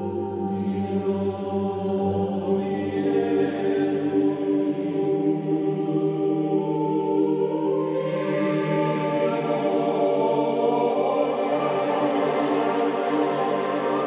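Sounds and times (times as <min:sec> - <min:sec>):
slow held chords music: 0:00.0 - 0:14.0.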